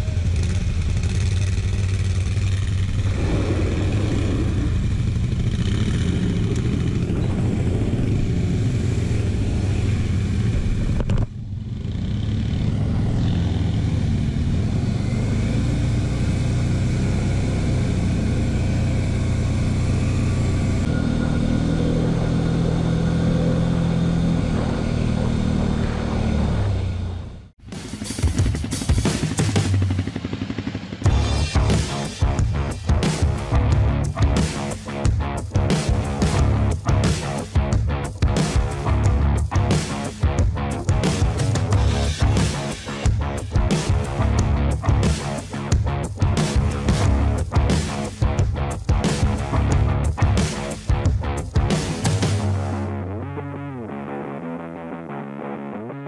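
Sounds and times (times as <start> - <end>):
quad engine on gravel track: 0.0 - 53.1.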